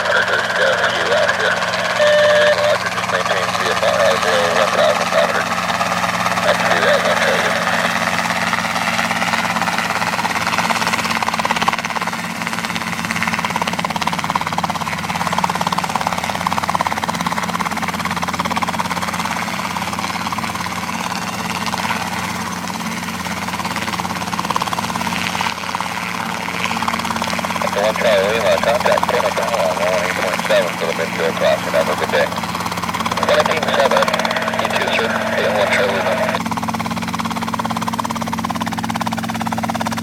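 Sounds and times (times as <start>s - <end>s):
helicopter hovering: 0.0s - 40.0s.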